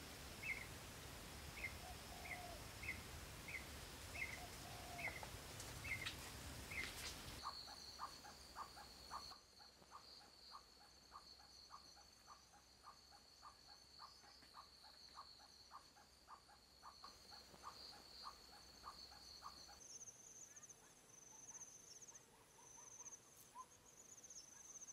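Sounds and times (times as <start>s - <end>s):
insects trilling: 0.0s - 24.9s
short lower insect call: 0.0s - 24.9s.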